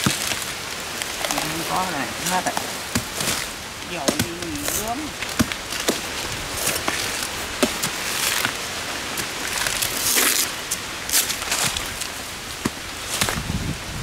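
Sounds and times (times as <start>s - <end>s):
fibrous wood tearing: 0.0s - 13.5s.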